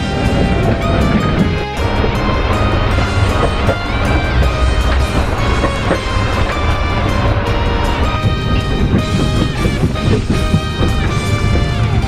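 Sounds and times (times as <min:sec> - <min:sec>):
background music with strong bass: 0:00.0 - 0:12.0.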